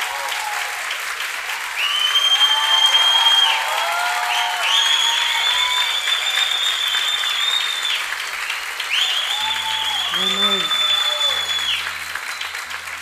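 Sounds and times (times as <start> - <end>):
audience applauding: 0.0 - 13.0
people cheering: 0.0 - 13.0
high held whistles: 1.8 - 13.0.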